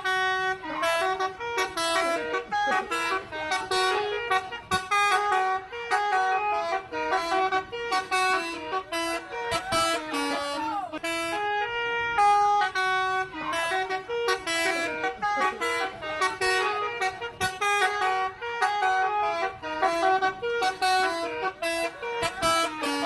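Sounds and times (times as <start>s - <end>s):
air horn tune: 0.0s - 23.0s.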